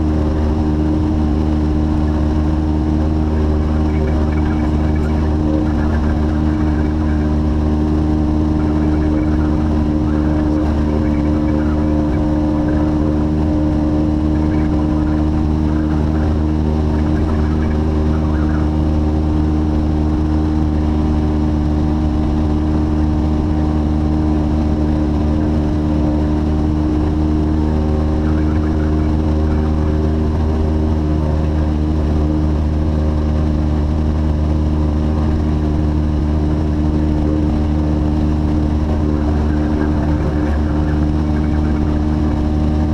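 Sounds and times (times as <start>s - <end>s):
light aircraft engine droning: 0.0s - 42.9s.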